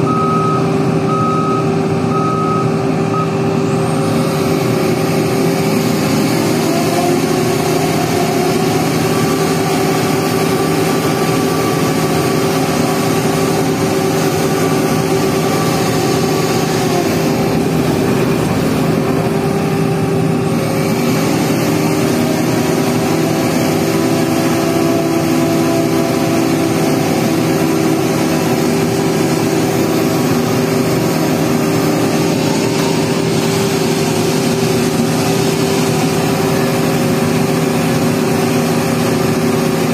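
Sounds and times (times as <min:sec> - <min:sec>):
construction machinery engine running: 0:00.0 - 0:39.9.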